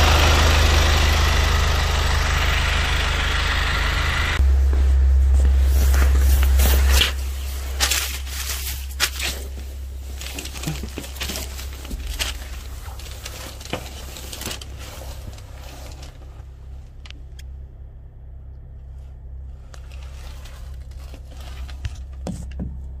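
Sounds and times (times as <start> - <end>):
engine idling hum: 0.0 - 23.0.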